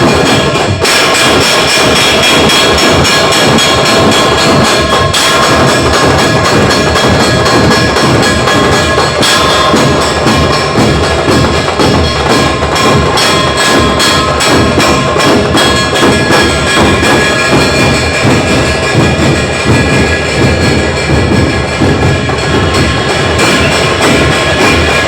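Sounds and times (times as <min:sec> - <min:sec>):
cymbal clashes: 0:00.0 - 0:25.0
rapid drum strikes: 0:00.0 - 0:25.0.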